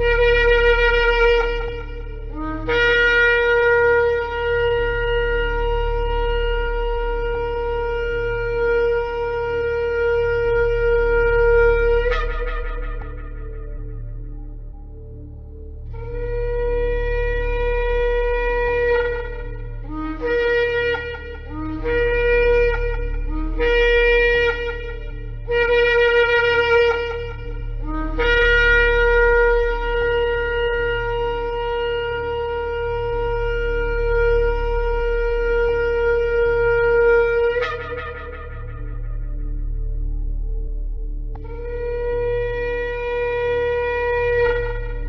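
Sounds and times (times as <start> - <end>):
low hum: 0.0 - 45.0
ram's horn blowing: 0.0 - 45.0.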